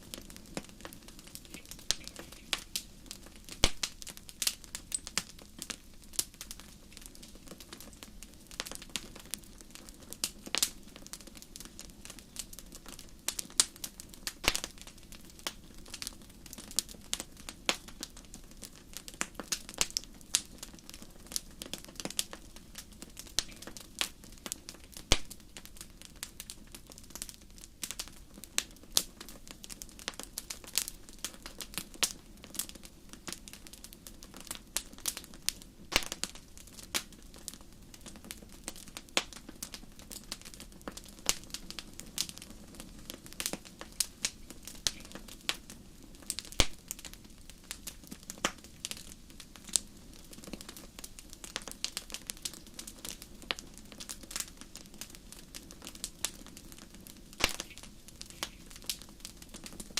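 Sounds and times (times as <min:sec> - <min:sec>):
low hiss of flames: 0:00.0 - 0:59.9
wood fire crackling: 0:00.0 - 0:59.9.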